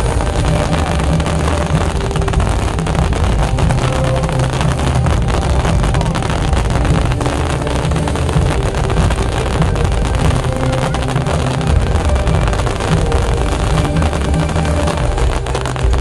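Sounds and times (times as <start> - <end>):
fireworks bangs and crackling: 0.0 - 16.0
low rumble: 0.0 - 16.0.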